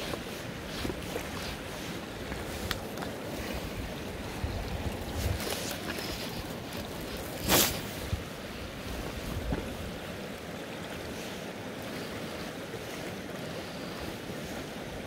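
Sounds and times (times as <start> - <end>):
river flowing over gravel: 0.0 - 15.0.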